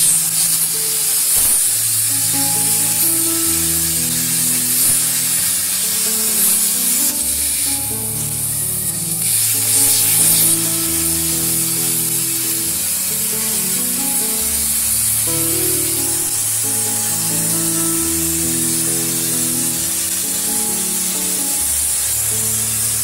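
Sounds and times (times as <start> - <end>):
background music: 0.0 - 23.0
plasma torch arc hissing: 0.0 - 23.0.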